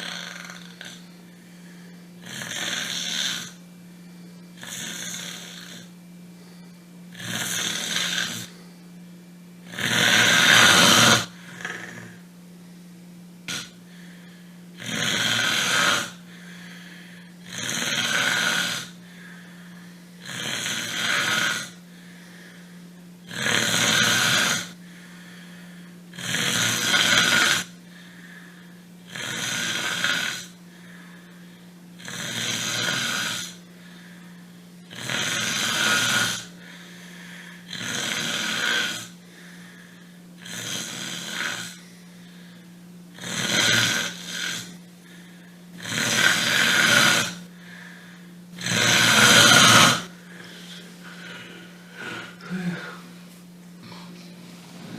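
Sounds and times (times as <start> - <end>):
person snoring: 0.0 - 3.6, 4.6 - 8.7, 9.6 - 12.2, 13.4 - 54.9
steady low hum: 0.0 - 54.9.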